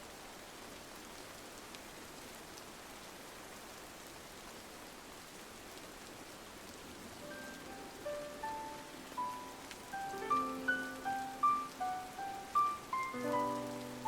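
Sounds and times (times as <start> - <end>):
rain on a window pane: 0.0 - 14.0.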